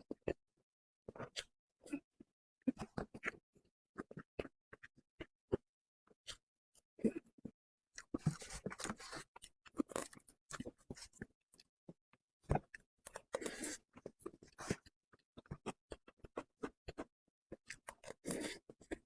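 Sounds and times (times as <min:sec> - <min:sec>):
person chewing soft cake: 0:00.0 - 0:00.4, 0:01.1 - 0:19.0.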